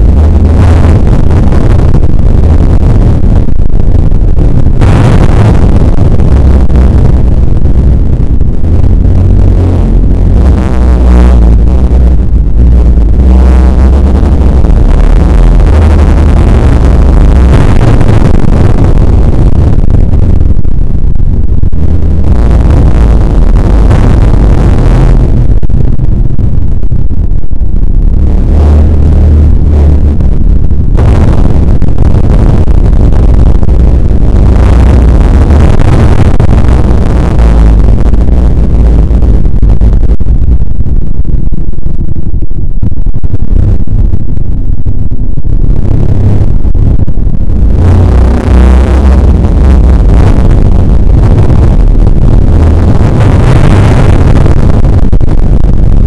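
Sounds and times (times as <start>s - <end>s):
distorted low rumble: 0.0s - 56.0s.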